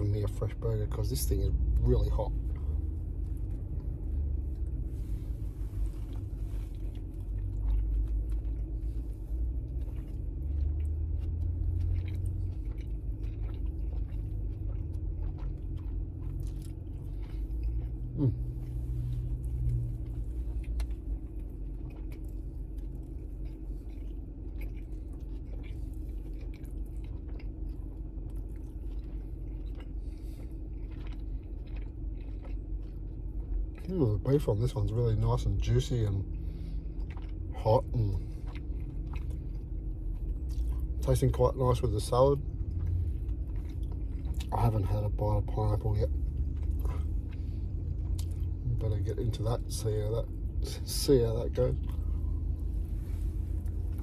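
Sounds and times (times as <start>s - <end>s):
car cabin rumble: 0.0s - 54.0s
man chewing: 0.0s - 54.0s.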